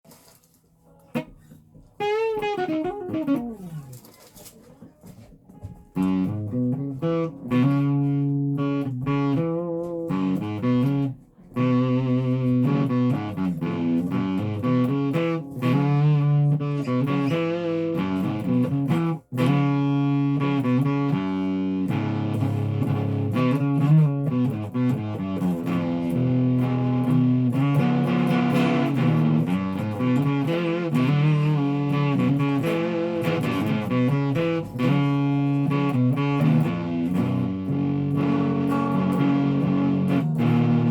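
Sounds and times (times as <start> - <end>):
guitar playing chords: 0.8 - 4.1, 5.5 - 40.9.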